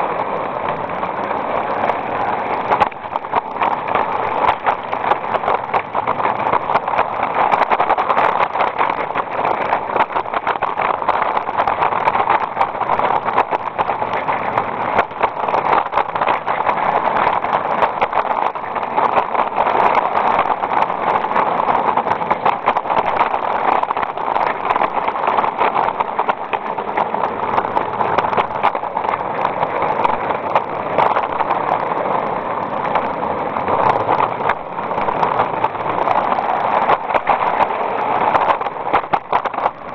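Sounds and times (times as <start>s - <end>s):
small clicks: 1.8s - 39.9s.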